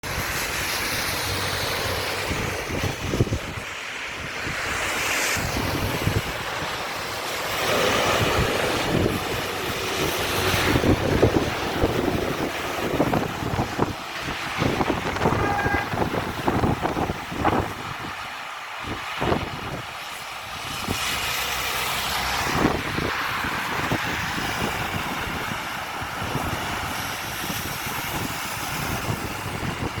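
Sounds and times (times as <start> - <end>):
rain hissing: 0.0 - 30.0
wind buffeting microphone: 0.0 - 30.0.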